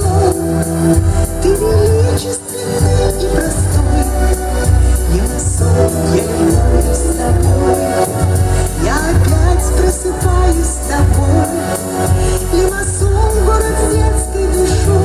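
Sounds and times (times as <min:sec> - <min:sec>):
amplified instrumental accompaniment: 0:00.0 - 0:15.0.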